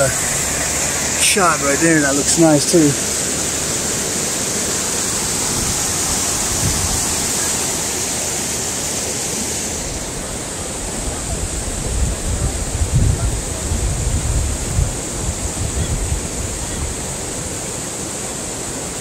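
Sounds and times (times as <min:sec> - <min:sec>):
wind buffeting microphone: 0:00.0 - 0:08.7, 0:09.8 - 0:17.8
stream water rushing: 0:00.0 - 0:19.0.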